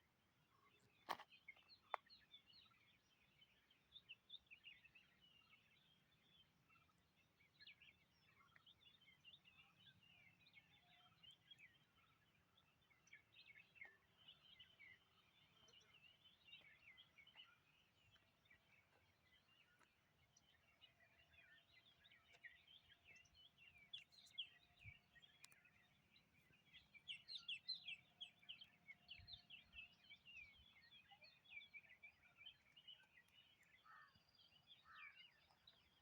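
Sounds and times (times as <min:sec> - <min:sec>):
small birds chirping: 0:00.5 - 0:36.0.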